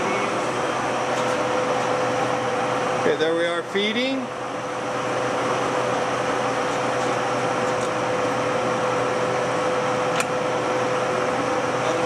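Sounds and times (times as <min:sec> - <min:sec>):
lathe whirring: 0:00.0 - 0:12.0.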